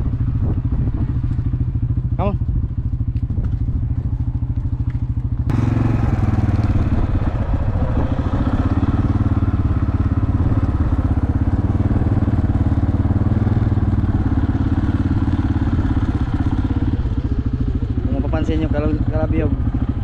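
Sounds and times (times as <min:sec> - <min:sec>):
small engine running steadily: 0:00.0 - 0:20.0.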